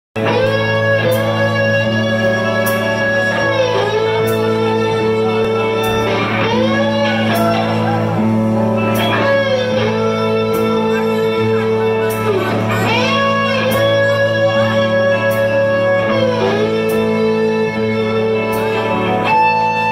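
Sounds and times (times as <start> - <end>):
blues-rock band playing: 0.2 - 19.9
harmonica wailing: 0.2 - 19.9.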